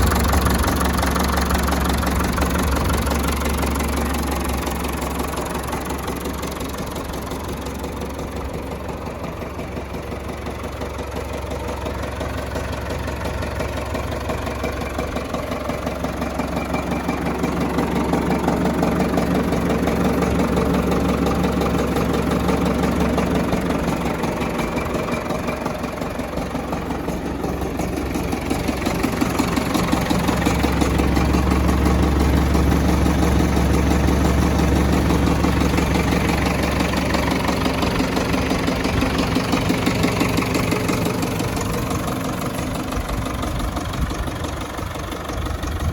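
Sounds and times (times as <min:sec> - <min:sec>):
tractor diesel engine idling: 0:00.0 - 0:45.9.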